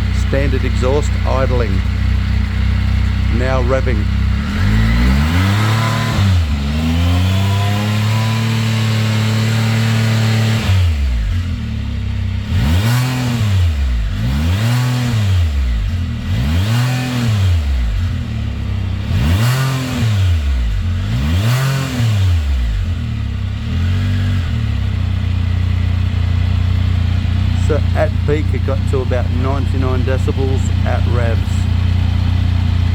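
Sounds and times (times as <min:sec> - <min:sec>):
three-cylinder engine revving: 0:00.0 - 0:32.9.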